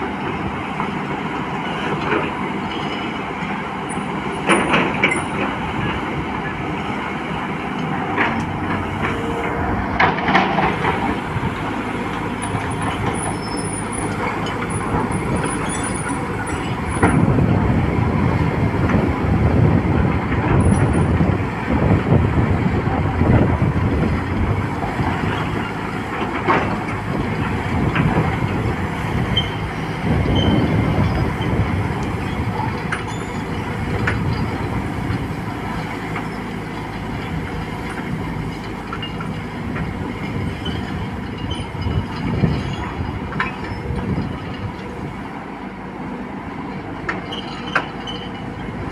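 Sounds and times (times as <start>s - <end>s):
excavator diesel engine: 0.0s - 48.9s.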